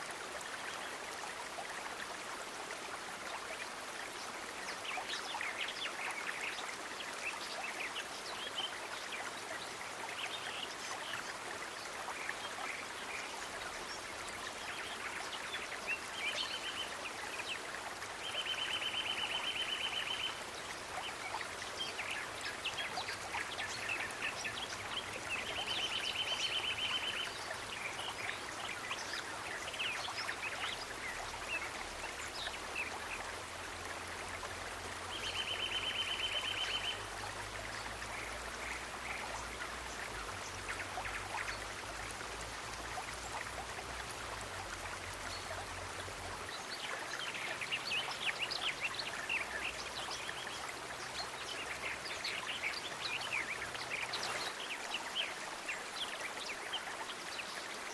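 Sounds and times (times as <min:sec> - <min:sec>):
water babbling and trickling: 0:00.0 - 0:57.9.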